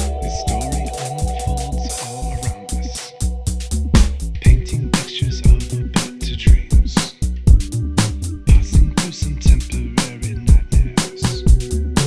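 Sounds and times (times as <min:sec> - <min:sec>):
hip hop backing track with bass: 0:00.0 - 0:12.0.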